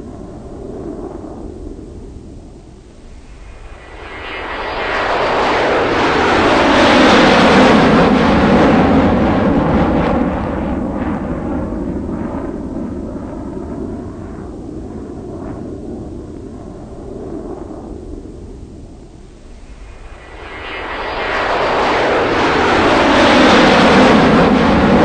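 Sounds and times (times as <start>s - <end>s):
aircraft engine noise: 0.0s - 25.0s.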